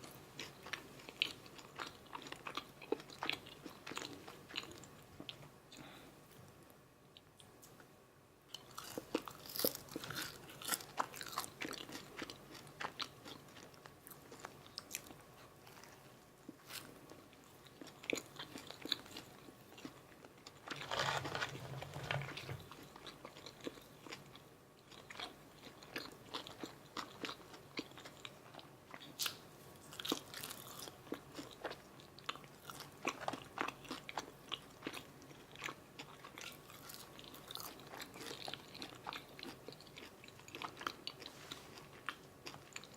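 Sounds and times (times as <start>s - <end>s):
crunchy chewing: 0.0s - 5.9s, 8.5s - 42.9s.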